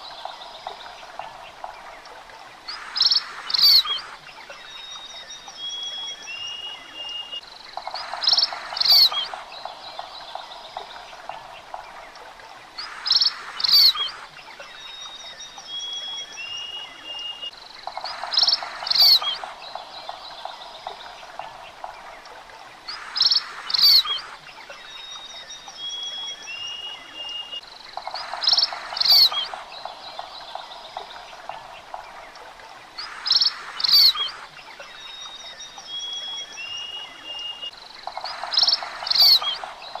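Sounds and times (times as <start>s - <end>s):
birds chirping: 0.0s - 40.0s
faint hiss: 0.0s - 40.0s.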